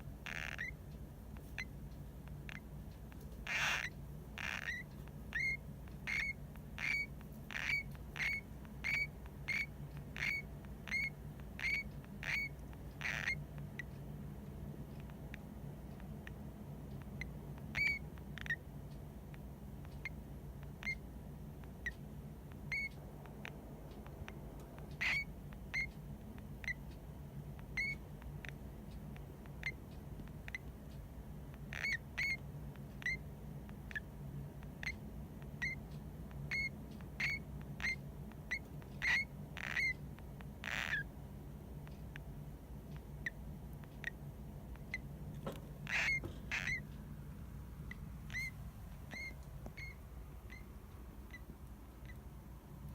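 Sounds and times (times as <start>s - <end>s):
hamster squeaking: 0.0s - 52.9s
steady low hum: 0.0s - 52.9s.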